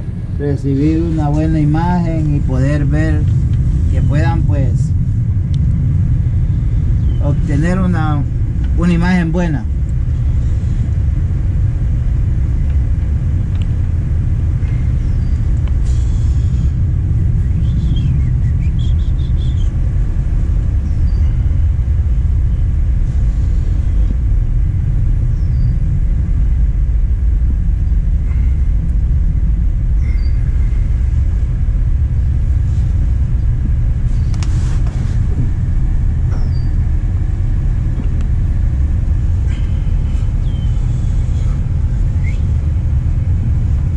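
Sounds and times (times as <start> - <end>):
low rumble: 0.0 - 43.9.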